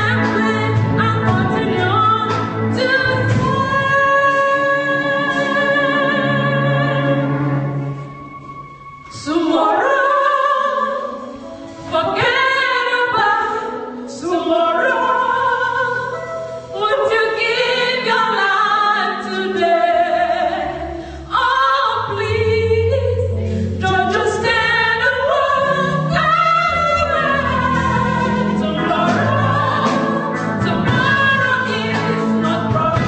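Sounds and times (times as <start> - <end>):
women singing gospel song: 0.0 - 7.6, 9.1 - 11.2, 11.8 - 16.2, 16.8 - 33.0
church band playing: 0.0 - 21.4, 22.1 - 33.0.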